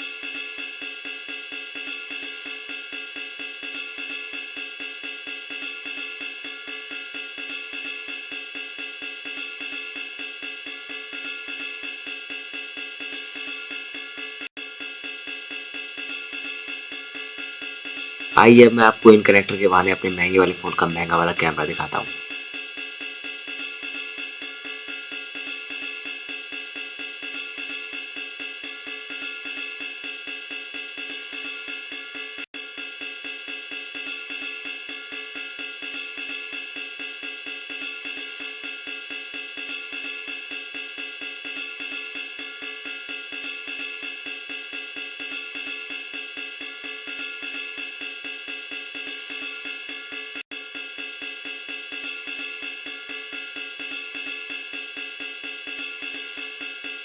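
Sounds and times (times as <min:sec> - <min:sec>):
background music with hi-hat beat: 0:00.0 - 0:57.0.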